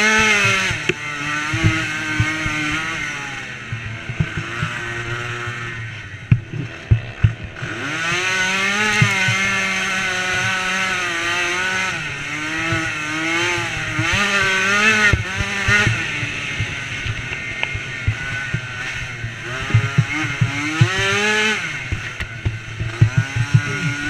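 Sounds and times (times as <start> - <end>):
knocks over bumps: 0.0 - 24.0
small engine revving hard: 0.0 - 24.0.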